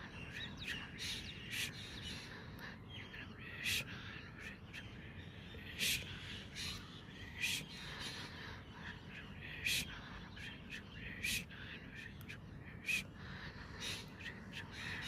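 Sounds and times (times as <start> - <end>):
faint bird calls: 0.0 - 15.0
harsh bird calls: 0.0 - 15.0
low background noise: 0.0 - 15.0.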